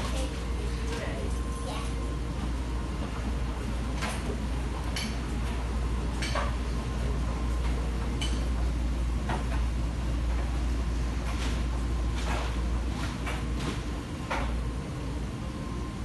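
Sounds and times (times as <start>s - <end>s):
washing machines humming: 0.0s - 16.0s.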